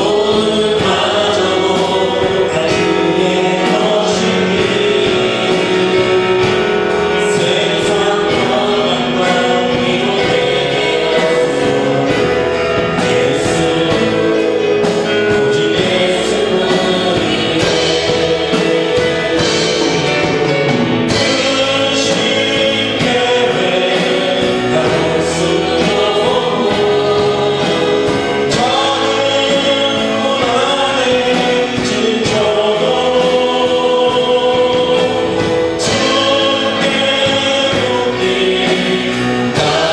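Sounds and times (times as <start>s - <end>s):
congregation singing: 0.0s - 39.9s
worship band playing: 0.0s - 39.9s.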